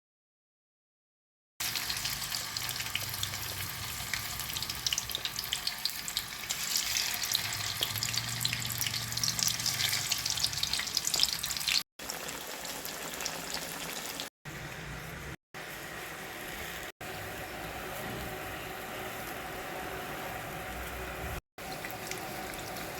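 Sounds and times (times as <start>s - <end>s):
food sizzling in hot oil: 1.6s - 14.3s, 15.6s - 22.9s.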